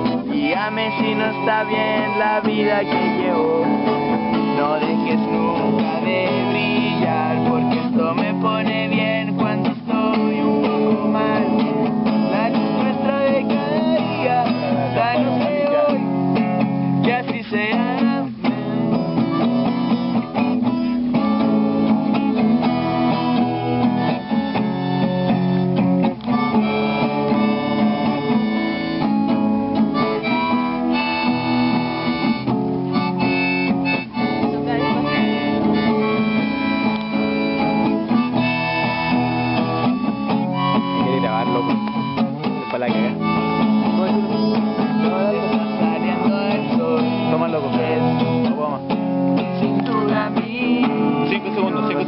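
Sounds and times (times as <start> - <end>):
acoustic guitar strumming: 0.0 - 52.0
harmonica melody: 0.0 - 52.0.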